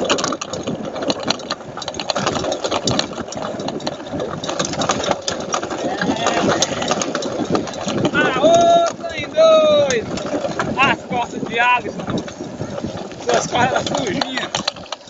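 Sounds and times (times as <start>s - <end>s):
bike rattling on dirt trail: 0.0s - 15.0s.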